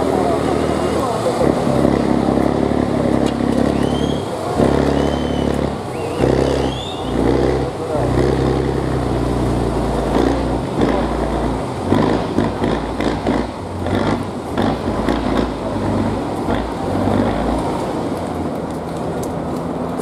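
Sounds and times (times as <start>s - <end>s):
truck diesel engine running: 0.0s - 20.0s.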